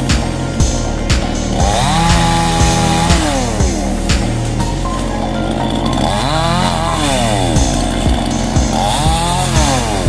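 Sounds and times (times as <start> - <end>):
chainsaw engine revving: 0.0 - 10.0
music with steady beat: 0.0 - 10.0.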